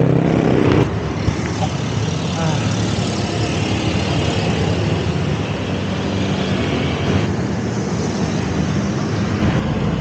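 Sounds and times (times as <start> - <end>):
motor traffic: 0.0 - 10.0.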